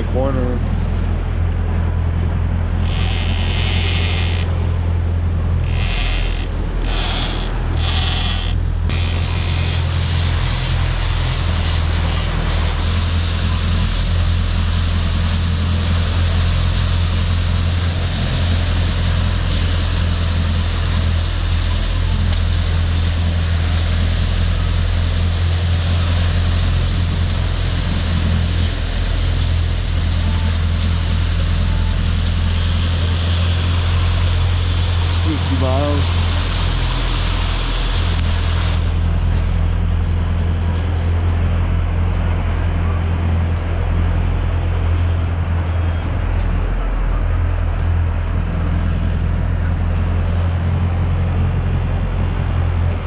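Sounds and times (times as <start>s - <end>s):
boat engine drone: 0.0s - 53.0s
rushing wake: 0.0s - 53.0s
wind: 0.0s - 53.0s.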